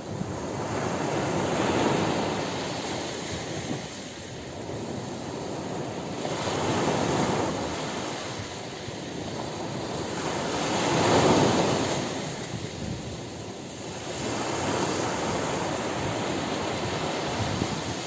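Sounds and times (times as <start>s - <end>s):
ocean waves washing on beach: 0.0s - 18.0s.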